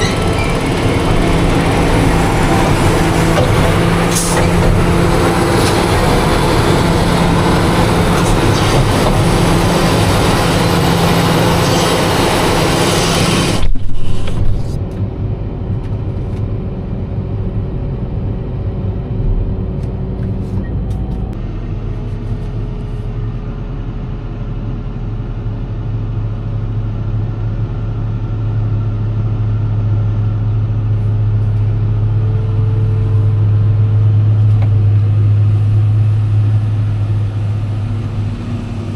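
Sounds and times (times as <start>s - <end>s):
farm vehicle engine running: 0.0s - 38.9s.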